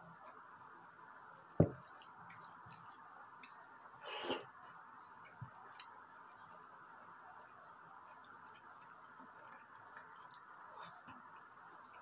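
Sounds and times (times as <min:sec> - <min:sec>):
faint steady hiss: 0:00.0 - 0:12.0
squishy sounds of eating by hand: 0:01.0 - 0:12.0.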